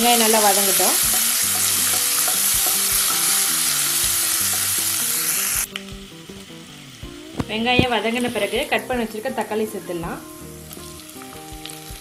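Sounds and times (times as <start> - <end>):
onions sizzling in hot oil: 0.0 - 12.0
soft background music: 0.0 - 12.0.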